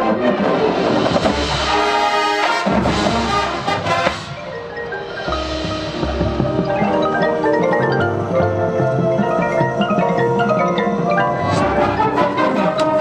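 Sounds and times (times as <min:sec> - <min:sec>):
mallet percussion: 0:00.0 - 0:13.0
marching band playing: 0:00.0 - 0:13.0.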